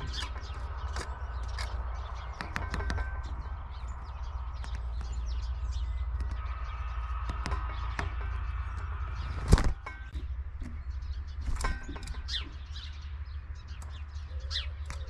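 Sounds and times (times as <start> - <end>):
bird chirps: 0.0 - 15.0
steady low rumble: 0.0 - 15.0
woodpecker pecking: 0.0 - 15.0.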